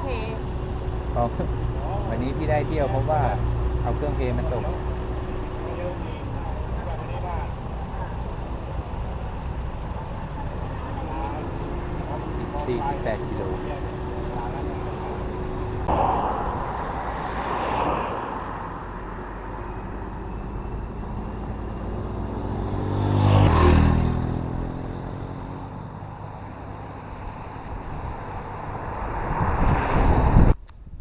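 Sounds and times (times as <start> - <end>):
vehicle passing by: 0.0 - 30.6
motorcycle engine and road rumble: 0.0 - 31.0.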